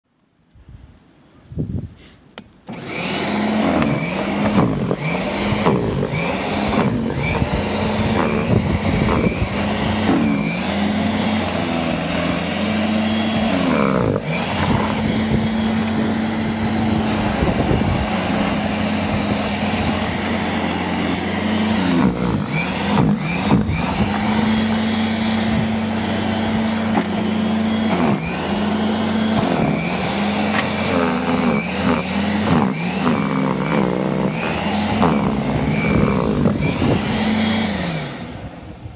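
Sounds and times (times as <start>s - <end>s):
electric snow shovel whirring: 2.6s - 38.9s.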